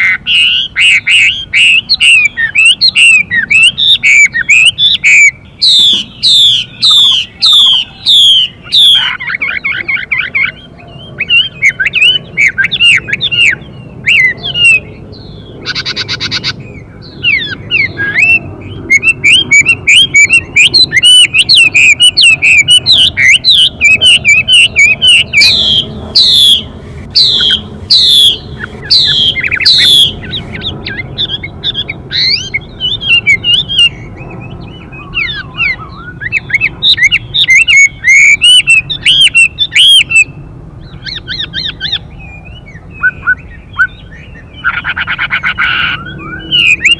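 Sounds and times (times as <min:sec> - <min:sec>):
bird song whistles and chirps: 0:00.0 - 0:46.9
harsh buzzy bird call: 0:00.0 - 0:46.9.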